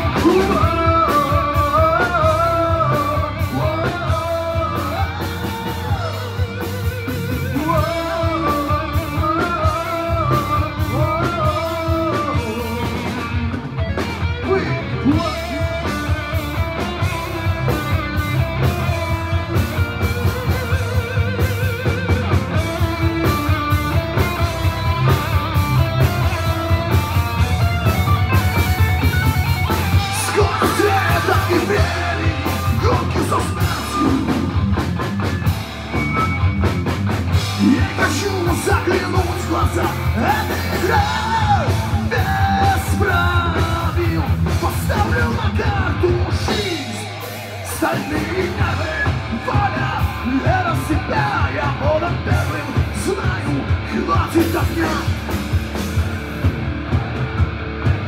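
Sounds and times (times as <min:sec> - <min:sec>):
bass guitar: 0:00.0 - 0:58.0
drum kit fast beat: 0:00.0 - 0:58.0
electric guitars: 0:00.0 - 0:58.0.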